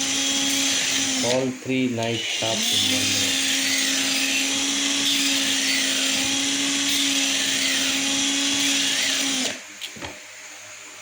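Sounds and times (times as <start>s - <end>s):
high grinding hiss: 0.0s - 9.6s
drill motor hum: 0.0s - 9.8s.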